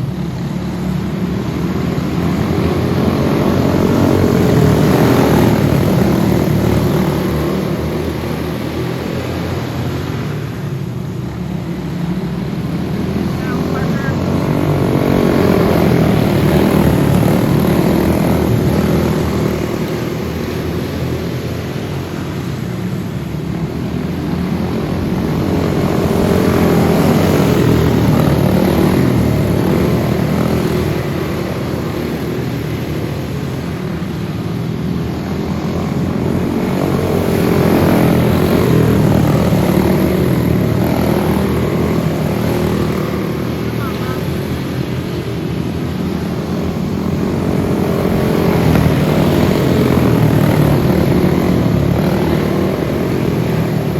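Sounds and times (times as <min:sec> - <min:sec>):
go-kart engines racing: 0:00.0 - 0:53.9.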